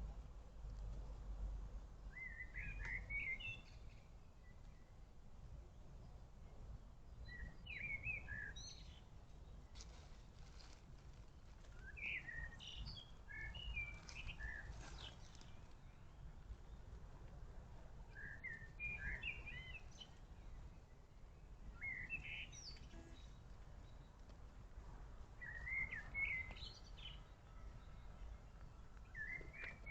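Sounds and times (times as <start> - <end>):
songbird chirping: 2.0 - 5.0, 7.1 - 10.8, 11.6 - 17.4, 18.0 - 29.9.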